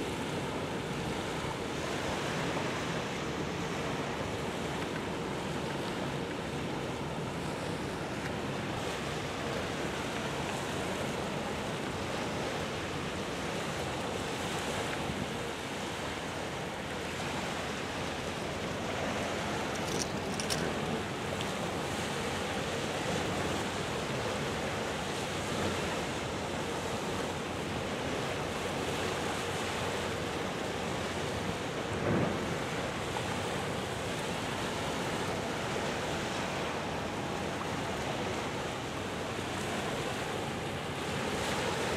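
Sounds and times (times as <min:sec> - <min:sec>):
water washing at shoreline: 0:00.0 - 0:41.9.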